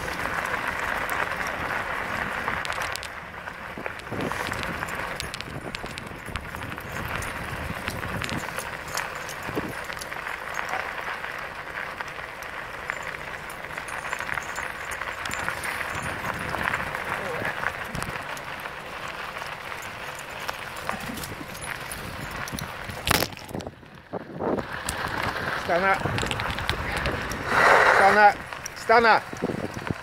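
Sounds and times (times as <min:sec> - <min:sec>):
running footsteps and paws on path: 0:00.0 - 0:30.0.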